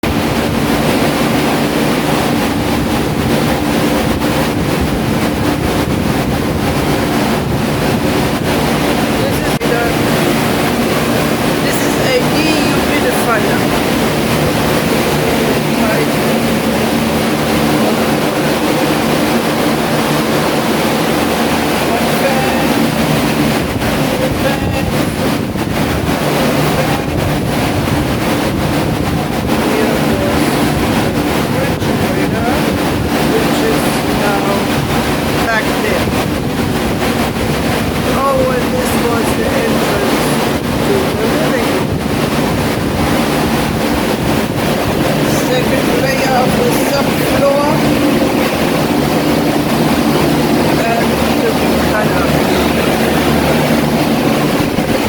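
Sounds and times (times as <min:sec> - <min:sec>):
fans rushing air: 0:00.0 - 0:55.0
low hum: 0:00.0 - 0:55.0.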